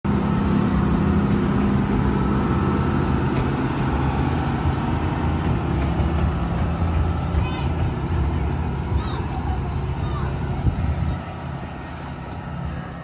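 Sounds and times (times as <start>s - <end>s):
locomotive idling: 0.1s - 13.0s.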